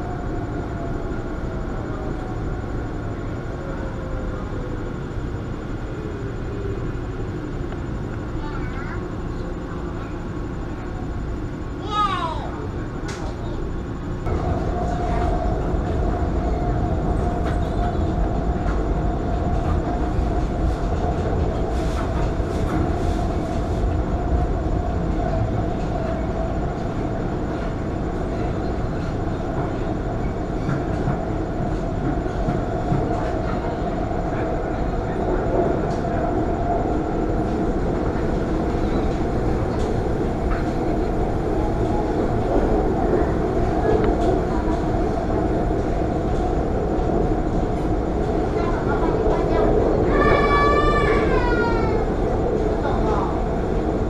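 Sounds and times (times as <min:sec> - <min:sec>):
constant hum: 0:00.0 - 0:54.0
metro train rumble: 0:00.0 - 0:54.0.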